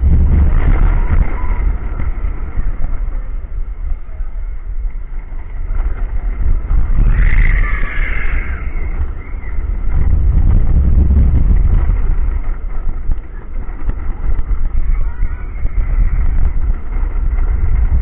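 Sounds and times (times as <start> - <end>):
roller coaster low rumble: 0.0 - 18.0
wind buffeting microphone: 0.0 - 18.0.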